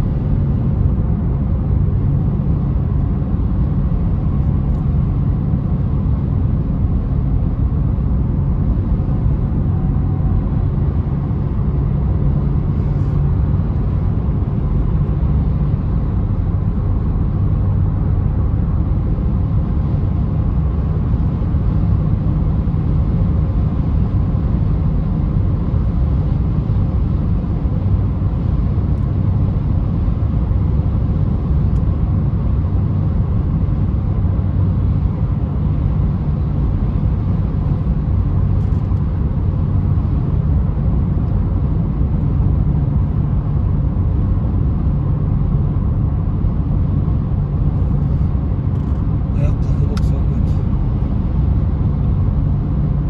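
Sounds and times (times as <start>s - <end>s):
car engine running steadily: 0.0s - 53.0s.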